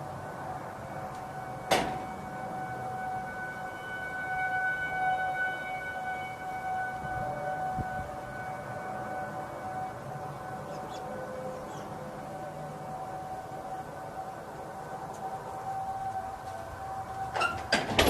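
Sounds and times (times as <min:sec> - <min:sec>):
siren-like droning tone: 0:00.0 - 0:18.0.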